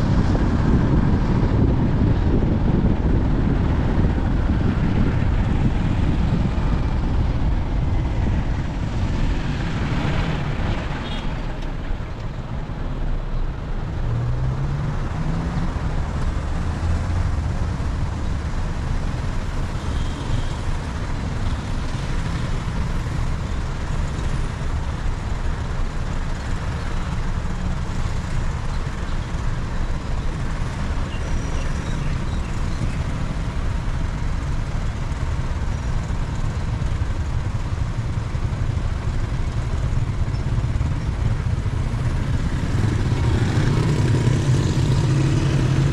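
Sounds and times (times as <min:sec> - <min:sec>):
car engine: 0:00.0 - 0:45.9
road noise: 0:00.0 - 0:45.9.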